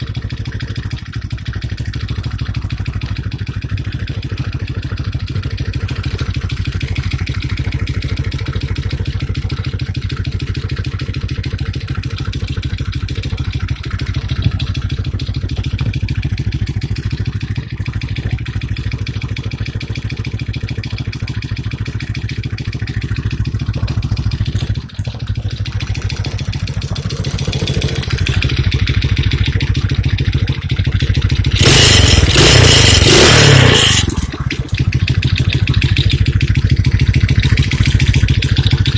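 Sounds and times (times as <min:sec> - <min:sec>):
atv engine idling and revving: 0:00.0 - 0:38.9.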